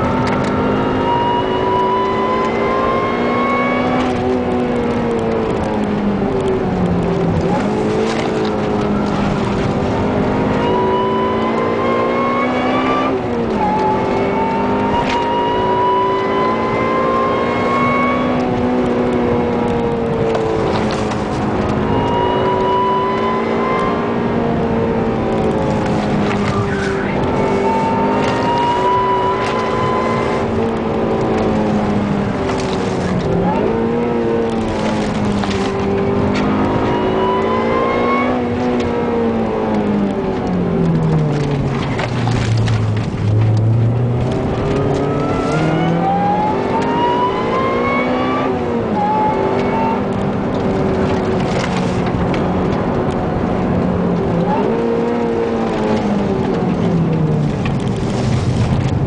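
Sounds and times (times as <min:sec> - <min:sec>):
car engine pulling uphill: 0:00.0 - 0:59.0
supercharger whine: 0:00.0 - 0:59.0
tyre and road noise: 0:00.0 - 0:59.0.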